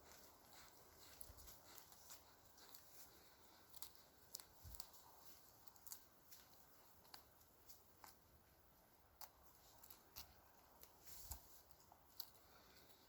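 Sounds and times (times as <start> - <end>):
faint irregular clicks: 0.1 - 13.0.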